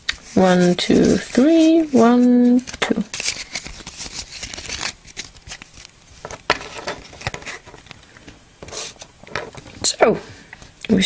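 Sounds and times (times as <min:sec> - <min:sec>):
cards rustling and sliding: 0:00.0 - 0:09.8.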